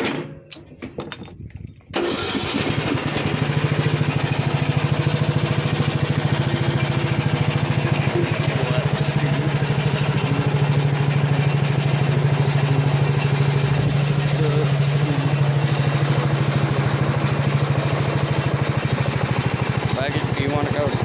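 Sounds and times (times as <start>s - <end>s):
lawnmower engine running: 1.9s - 21.0s.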